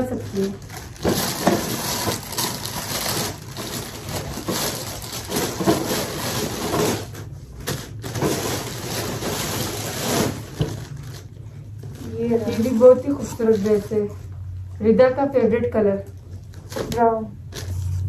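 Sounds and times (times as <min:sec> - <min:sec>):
plastic packaging crinkling: 0:00.0 - 0:14.4, 0:16.3 - 0:18.0.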